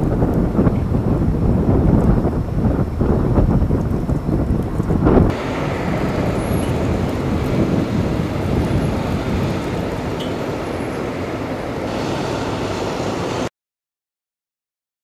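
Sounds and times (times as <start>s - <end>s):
street traffic rumble: 0.0s - 13.5s.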